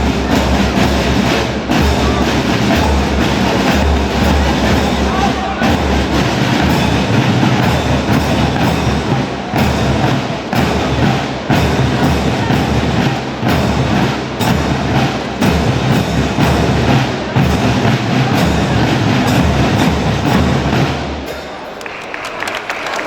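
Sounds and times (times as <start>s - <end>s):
loud music: 0.0s - 21.8s
percussion beat: 0.0s - 23.0s.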